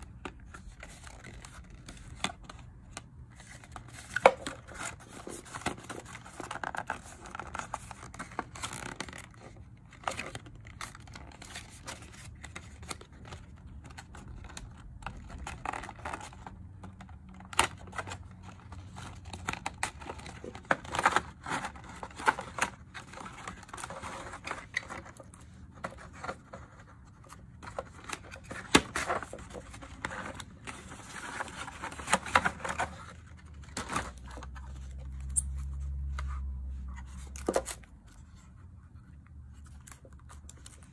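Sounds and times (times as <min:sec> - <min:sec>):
paperboard packaging rustling: 0:00.0 - 0:40.9.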